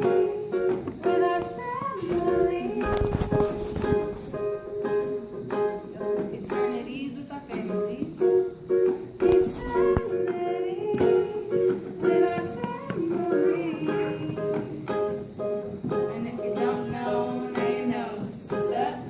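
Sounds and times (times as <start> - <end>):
person singing: 0.0 - 8.5, 9.2 - 19.0
acoustic strings strummed: 0.0 - 19.0.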